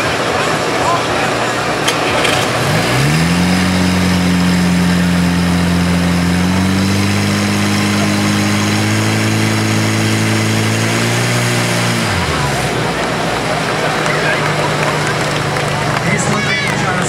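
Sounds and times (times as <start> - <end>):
fire pump engine running at high speed: 0.0 - 17.0.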